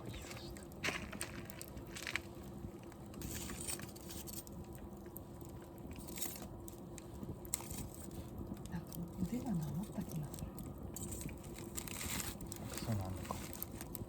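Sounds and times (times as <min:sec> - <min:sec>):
fire hissing: 0:00.0 - 0:14.0
wood fire crackling and popping: 0:00.0 - 0:14.0.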